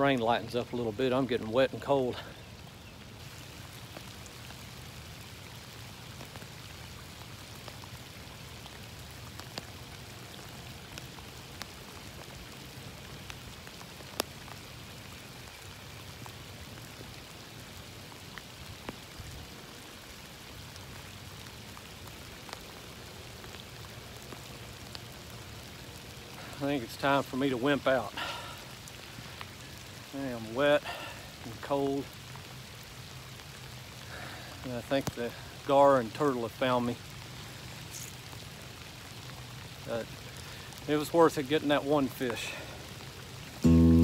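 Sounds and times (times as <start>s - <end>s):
steady rain hiss: 0.0s - 44.0s
raindrop ticks: 2.5s - 44.0s.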